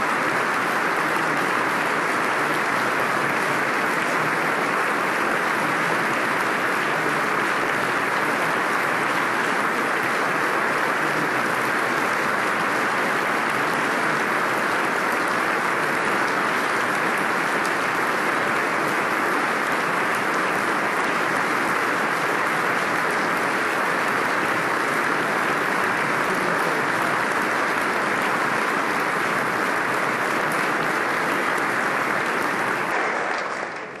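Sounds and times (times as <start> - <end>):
crowd applause: 0.0 - 34.0.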